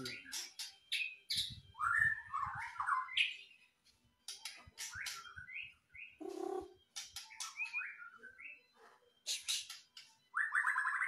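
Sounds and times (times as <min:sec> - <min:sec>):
bird singing whistled song: 0:00.0 - 0:03.6, 0:04.4 - 0:11.0.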